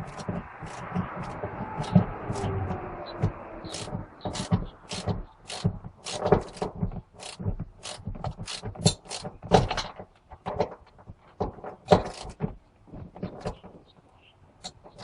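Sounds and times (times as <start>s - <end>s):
tools and car parts clacking: 0.0s - 15.0s.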